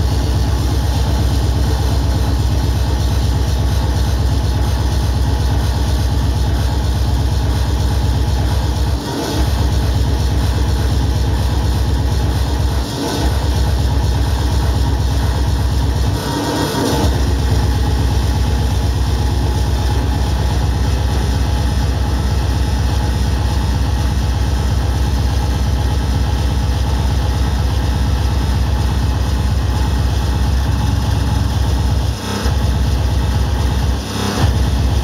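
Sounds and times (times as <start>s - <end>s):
fast kick drums: 0.0s - 35.0s
noisy electronic music: 0.0s - 35.0s.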